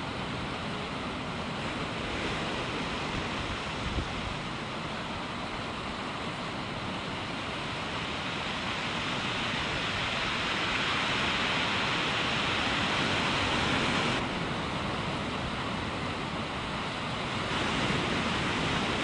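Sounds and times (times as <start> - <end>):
surf washing over shore: 0.0 - 19.0.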